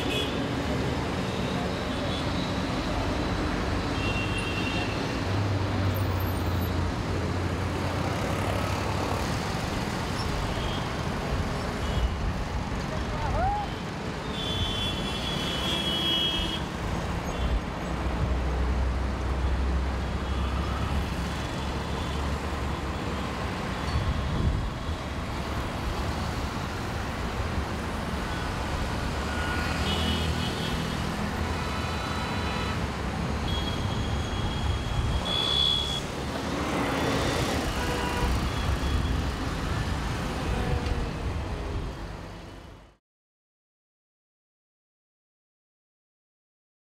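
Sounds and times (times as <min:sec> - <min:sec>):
heavy road traffic rumble: 0:00.0 - 0:43.0.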